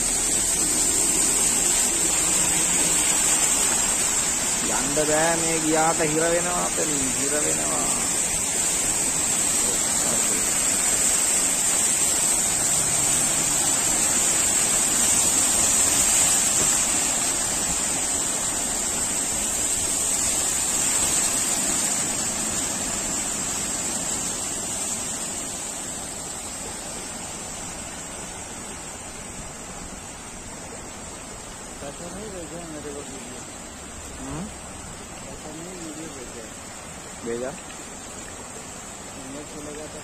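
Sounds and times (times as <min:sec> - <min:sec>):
vehicles splashing through floodwater: 0:00.0 - 0:40.0.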